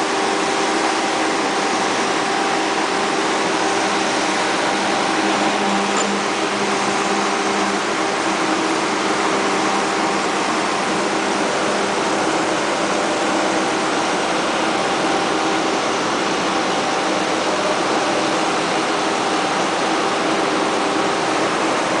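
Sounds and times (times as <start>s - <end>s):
excavator diesel engine and hydraulics: 0.0s - 22.0s.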